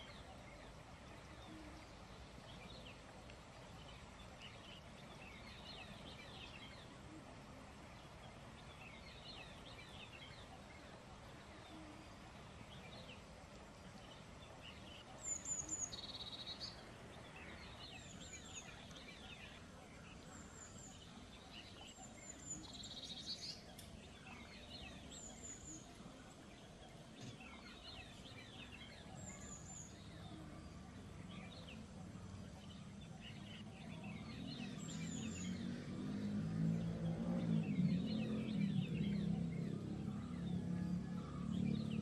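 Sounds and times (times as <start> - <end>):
songbirds chirping: 0.0 - 42.0
steady background hiss: 0.0 - 42.0.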